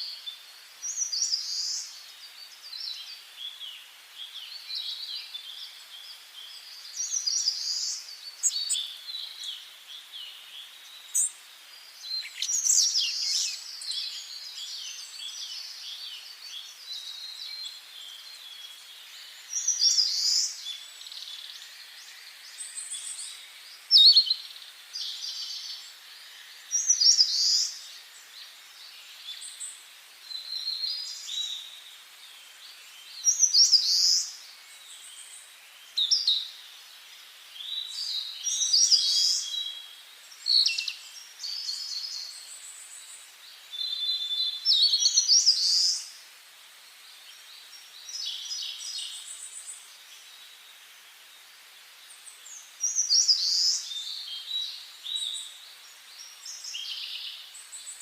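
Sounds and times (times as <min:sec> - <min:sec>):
faint steady hiss: 0:00.0 - 0:58.0
songbirds singing: 0:00.0 - 0:58.0.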